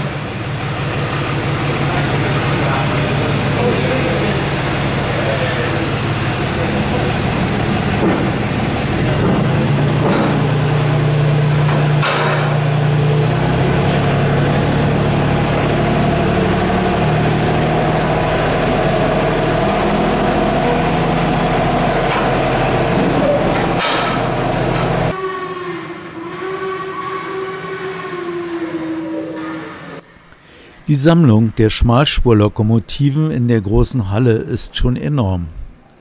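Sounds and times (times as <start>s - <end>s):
train running low drone: 0.0s - 30.0s.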